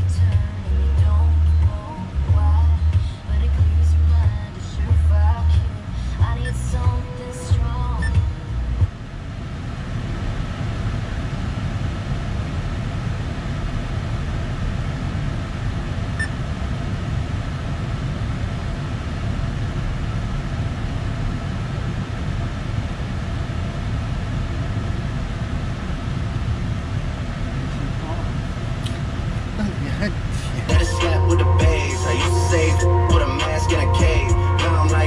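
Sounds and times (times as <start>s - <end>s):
climate control fan hum: 0.0s - 35.0s
engine idling rumble: 0.0s - 35.0s.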